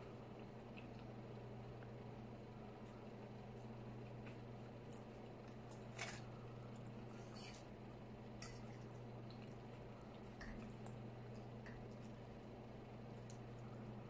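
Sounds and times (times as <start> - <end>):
steady low hum: 0.0 - 14.0
close chewing and mouth sounds: 0.3 - 2.0, 2.7 - 14.0.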